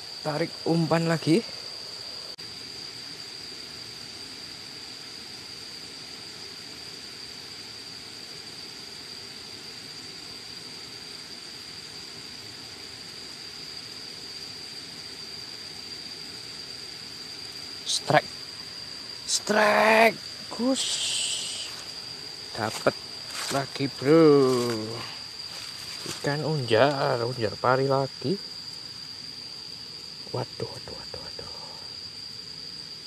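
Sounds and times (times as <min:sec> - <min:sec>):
faint steady hiss: 0:00.0 - 0:33.0
insects chirring: 0:00.0 - 0:33.0.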